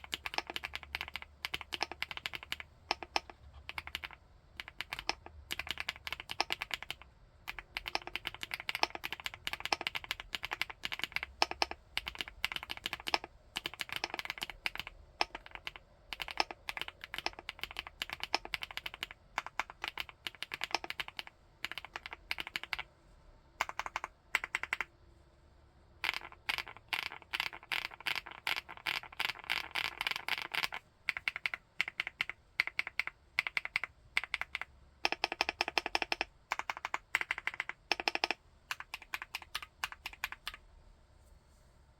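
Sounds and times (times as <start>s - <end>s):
keyboard typing: 0.0s - 22.9s, 23.6s - 24.9s, 26.0s - 40.7s.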